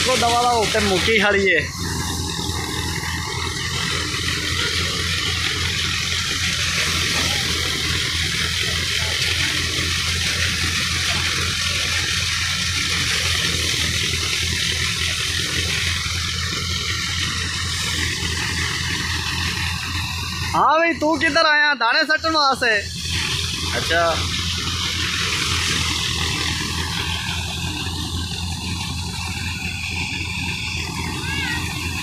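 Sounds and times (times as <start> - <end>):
threshing machine rushing: 0.0 - 21.5, 22.2 - 32.0
tractor diesel engine hum: 0.0 - 32.0.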